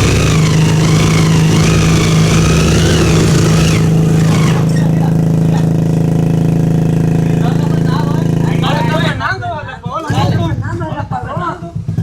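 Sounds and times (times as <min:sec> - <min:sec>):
motorcycle engines revving hard: 0:00.0 - 0:09.4, 0:10.0 - 0:12.0
motorcycle idling: 0:00.0 - 0:12.0.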